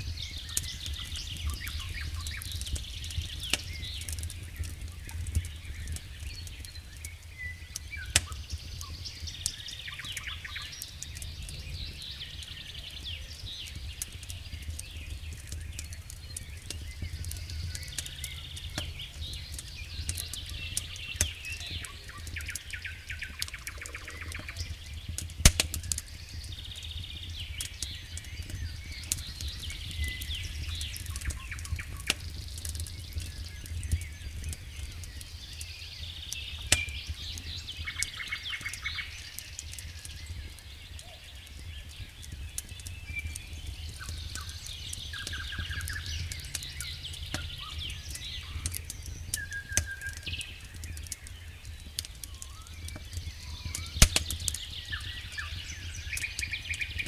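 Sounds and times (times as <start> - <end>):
campfire crackling and popping: 0.0 - 57.0
small birds chirping: 0.0 - 57.0.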